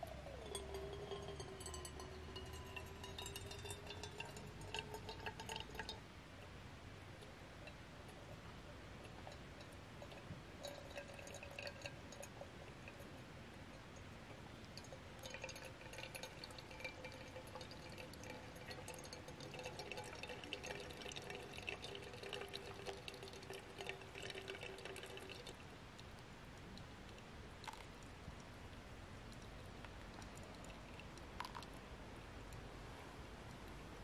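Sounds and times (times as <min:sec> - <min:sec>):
water trickling onto coffee grounds: 0:00.0 - 0:06.6, 0:07.2 - 0:32.7.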